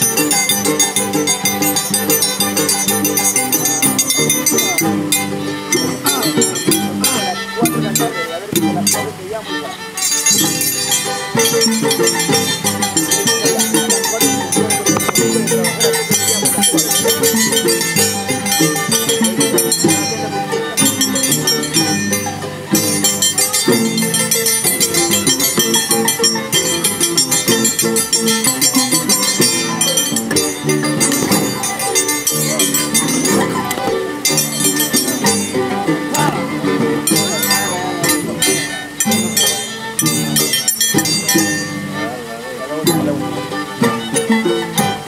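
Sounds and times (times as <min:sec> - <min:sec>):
harp: 0:00.0 - 0:45.0
violin: 0:00.0 - 0:45.0.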